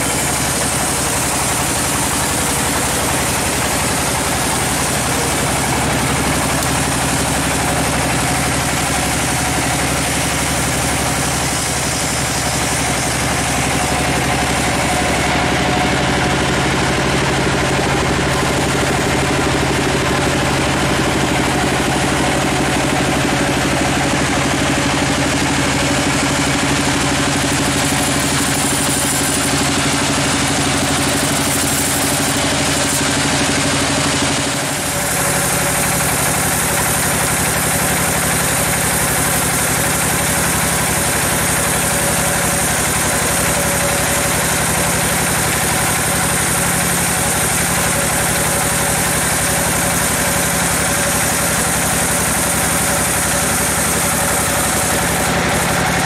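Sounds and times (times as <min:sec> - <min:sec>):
bandsaw mill cutting log: 0:00.0 - 0:56.0.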